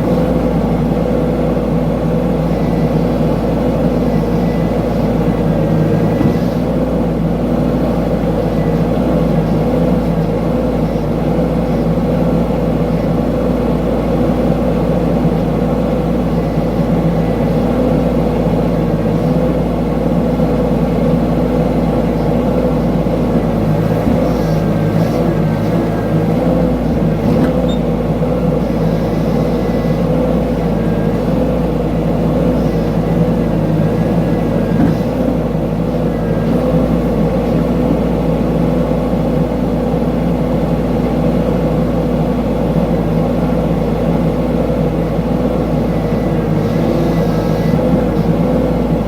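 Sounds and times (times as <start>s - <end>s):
mini excavator engine running: 0.0s - 49.0s.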